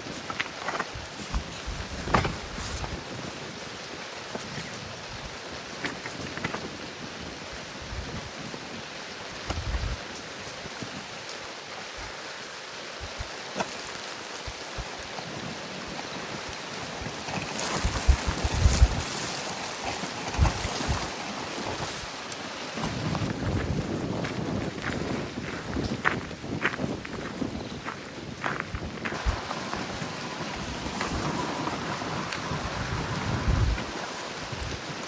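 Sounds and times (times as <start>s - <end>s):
gusting wind: 0.0s - 35.0s
steady rain: 0.0s - 35.0s.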